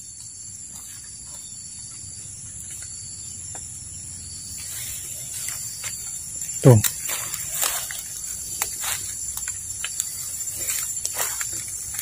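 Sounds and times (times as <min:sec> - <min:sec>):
insects chirping in chorus: 0:00.0 - 0:12.0.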